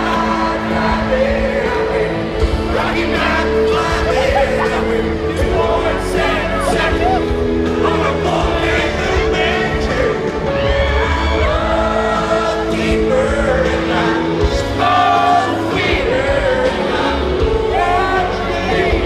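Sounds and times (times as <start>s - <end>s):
live country band playing: 0.0s - 19.0s
man singing: 0.0s - 19.0s.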